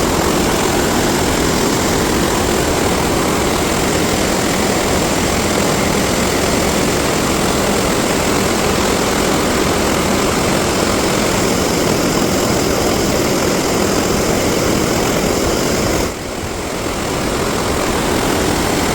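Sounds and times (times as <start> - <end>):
floodwater rushing roar: 0.0 - 18.9.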